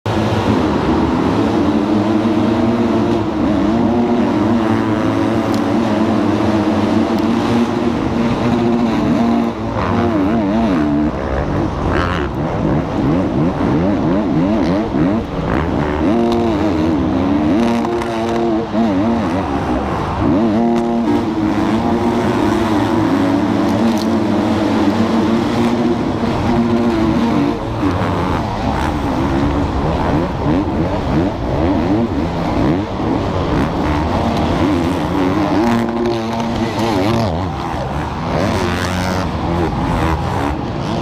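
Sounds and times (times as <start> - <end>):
dirt bike engines revving: 0.1 - 41.0.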